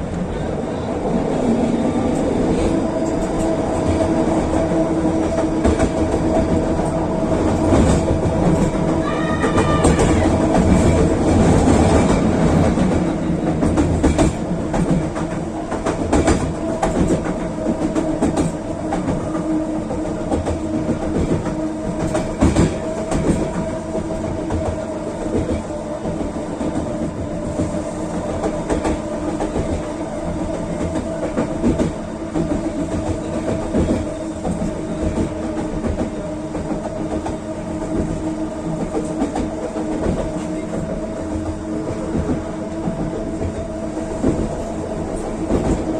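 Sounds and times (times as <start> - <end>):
metro train rumbling: 0.0 - 45.9.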